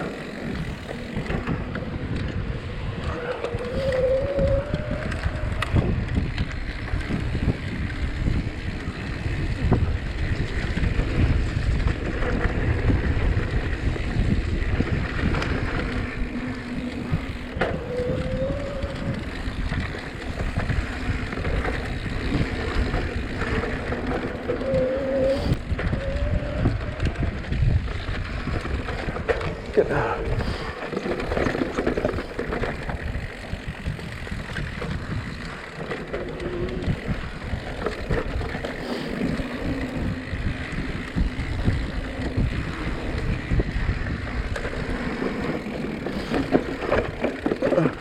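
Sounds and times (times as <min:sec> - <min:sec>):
bike rumbling and rattling: 0:00.0 - 0:48.0
wind buffeting microphone: 0:00.0 - 0:48.0.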